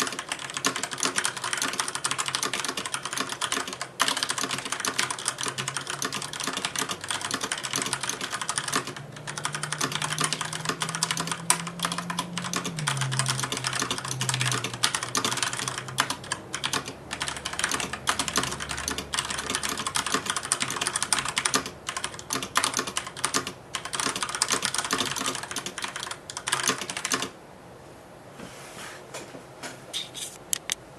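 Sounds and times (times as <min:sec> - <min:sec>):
mechanical keyboard typing: 0:00.0 - 0:27.4.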